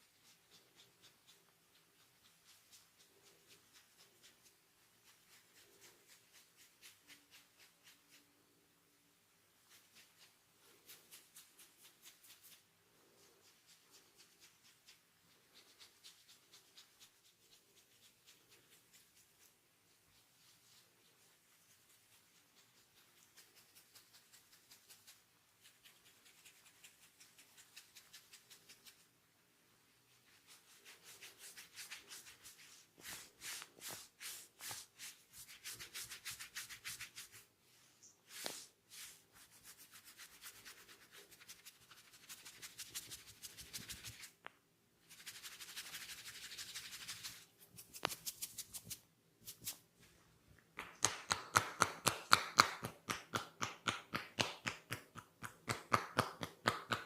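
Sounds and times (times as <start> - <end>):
hands rubbing scalp and hair: 0.0 - 57.0.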